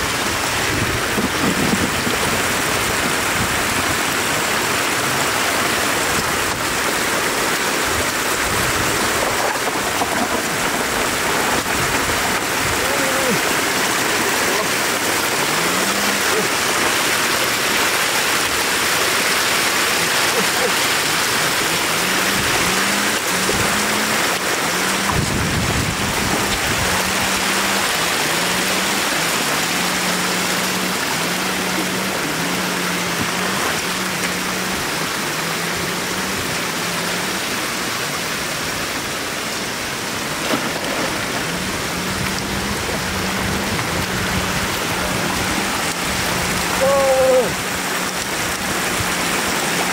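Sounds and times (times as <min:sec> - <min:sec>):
floodwater rushing over road: 0:00.0 - 0:49.9.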